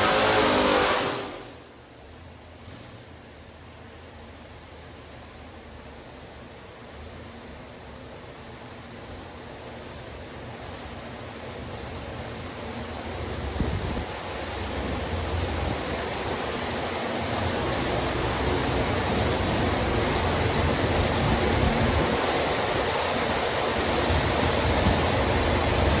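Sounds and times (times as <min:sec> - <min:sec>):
engine running with low rumble: 0:00.0 - 0:26.0.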